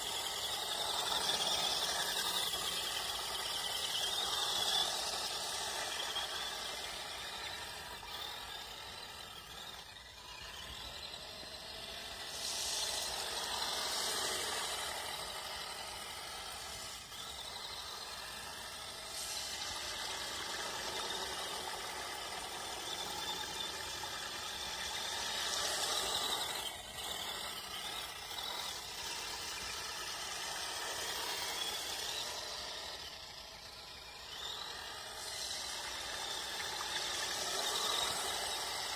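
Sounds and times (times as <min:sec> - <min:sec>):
electric motor whine: 0:00.0 - 0:38.9.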